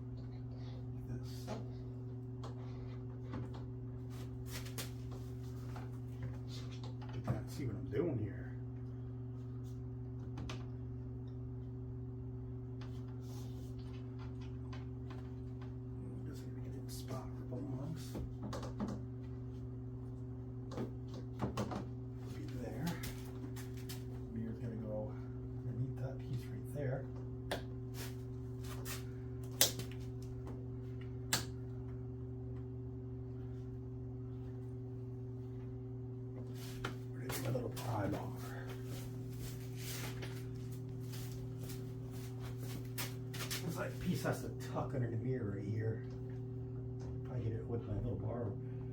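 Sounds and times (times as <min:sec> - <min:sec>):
low hum: 0:00.0 - 0:48.9.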